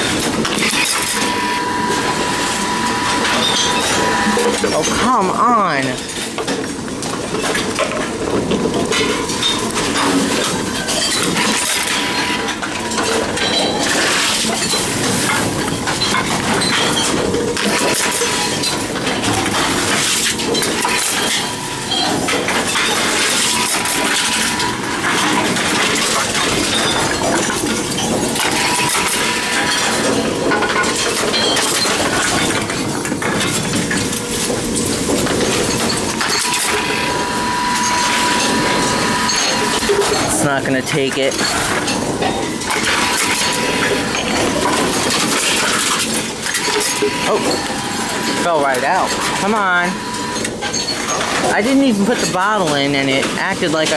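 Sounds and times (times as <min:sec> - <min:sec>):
cans and bottles rattling in machine: 0:00.0 - 0:53.9.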